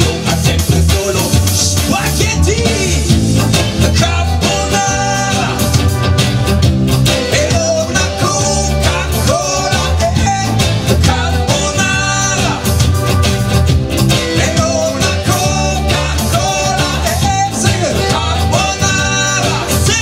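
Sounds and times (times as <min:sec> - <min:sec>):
upbeat pop-rock music: 0:00.0 - 0:20.0.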